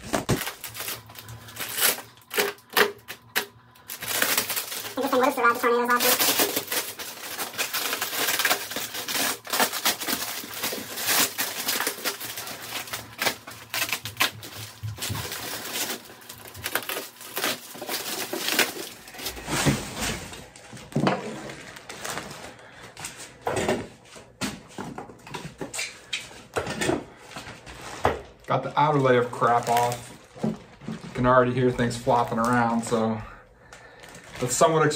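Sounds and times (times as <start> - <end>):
plastic wrap rustling: 0.0 - 34.9.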